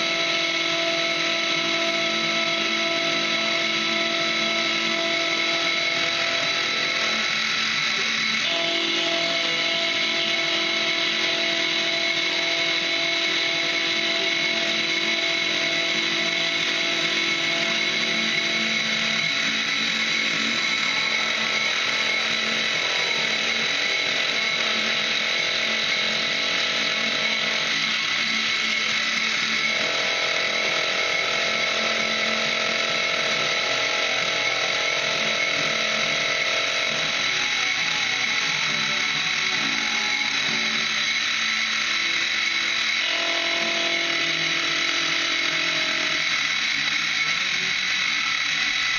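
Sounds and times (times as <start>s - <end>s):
cutter milling metal: 0.0s - 48.9s
milling machine whine: 0.0s - 48.9s.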